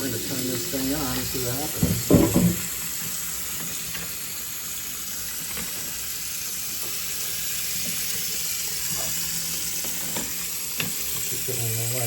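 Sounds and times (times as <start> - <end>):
kitchen faucet running: 0.0 - 12.0.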